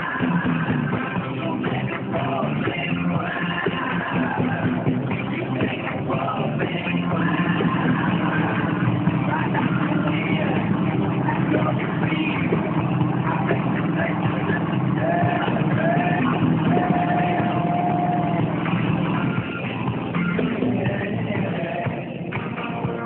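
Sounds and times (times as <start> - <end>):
vehicle engine running: 0.0 - 22.6.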